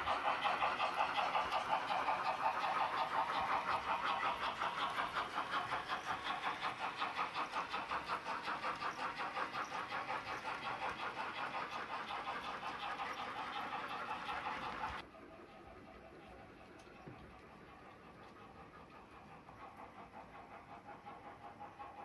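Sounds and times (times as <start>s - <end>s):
model steam locomotive pulsing: 0.0s - 22.0s.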